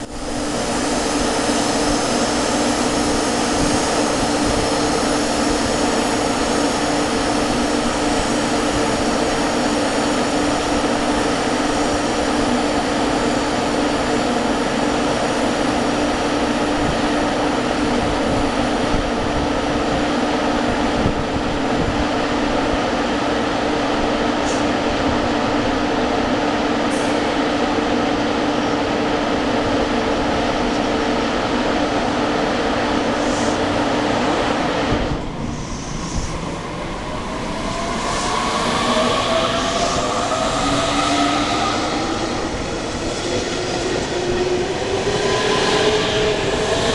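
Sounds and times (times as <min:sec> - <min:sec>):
train rail rumble: 0:00.0 - 0:46.9.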